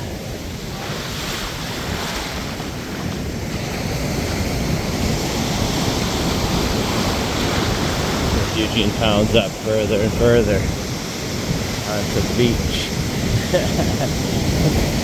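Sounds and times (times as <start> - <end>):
ocean surf washing up beach: 0.0 - 15.0
wind rumbling on microphone: 0.0 - 15.0.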